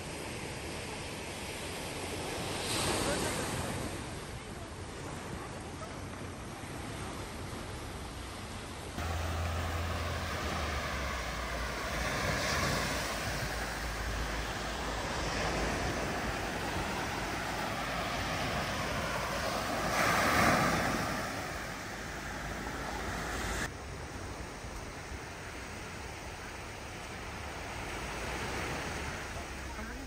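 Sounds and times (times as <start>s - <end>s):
sea waves washing ashore: 0.0s - 30.0s.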